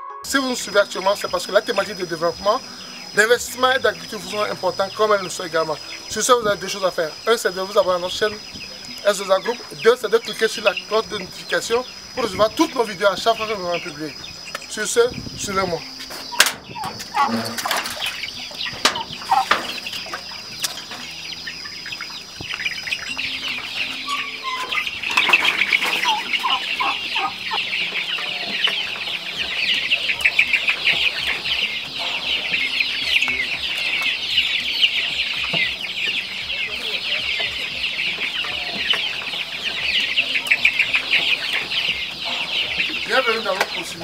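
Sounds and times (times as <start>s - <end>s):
chicks cheeping: 0.0s - 44.0s
high insect trill: 0.3s - 44.0s.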